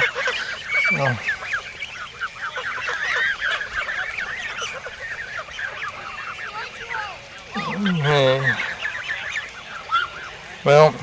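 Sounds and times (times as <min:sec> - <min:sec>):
young geese peeping calls: 0:00.0 - 0:11.0.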